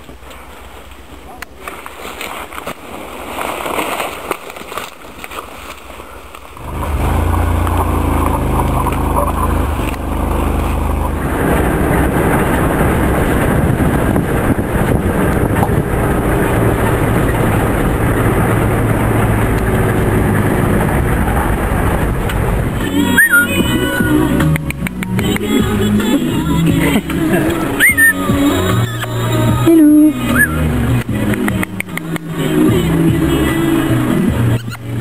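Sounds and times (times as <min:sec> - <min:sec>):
road and wind noise: 0:00.0 - 0:35.0
vehicle engine hum: 0:05.8 - 0:35.0.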